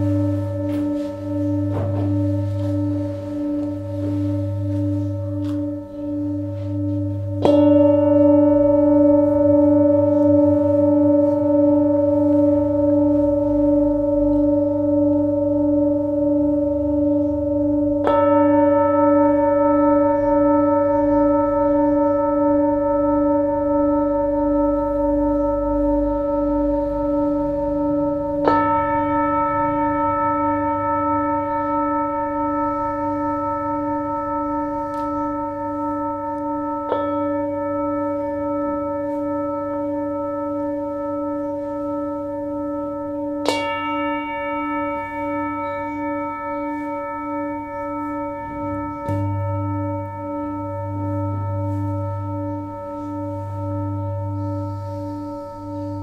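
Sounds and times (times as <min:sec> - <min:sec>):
low steady hum: 0:00.0 - 0:56.0
singing bowls ringing: 0:00.0 - 0:56.0.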